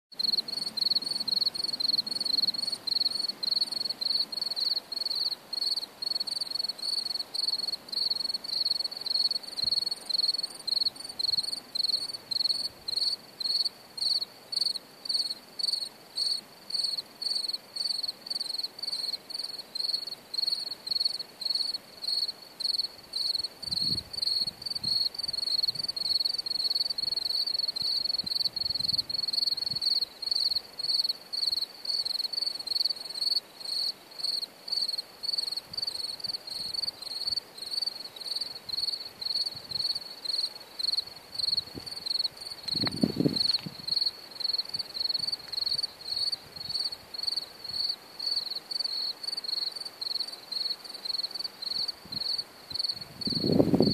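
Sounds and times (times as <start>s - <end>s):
cricket chirping: 0.1s - 53.9s.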